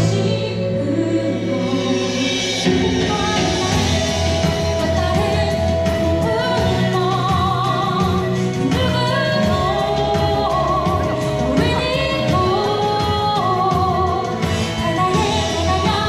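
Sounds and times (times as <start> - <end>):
instrumental accompaniment: 0.0 - 16.0
person singing with vibrato: 0.0 - 16.0.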